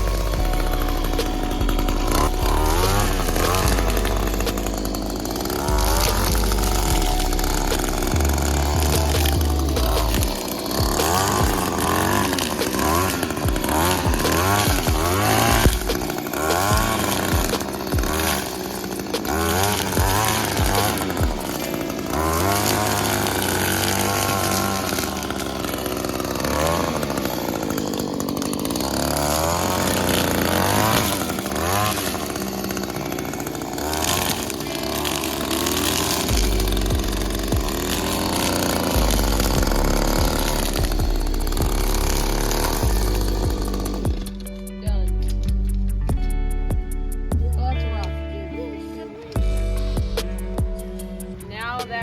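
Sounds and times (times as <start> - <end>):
small two-stroke engine revving: 0.0 - 45.8, 47.4 - 52.0.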